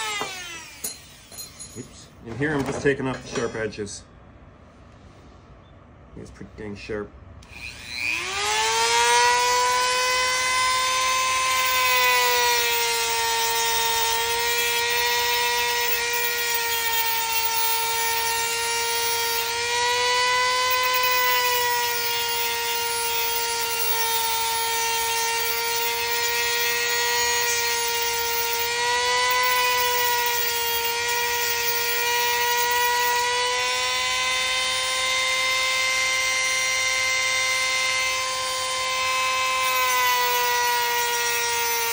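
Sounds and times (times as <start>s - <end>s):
rotary tool grinding metal: 0.0s - 2.0s, 7.4s - 41.9s.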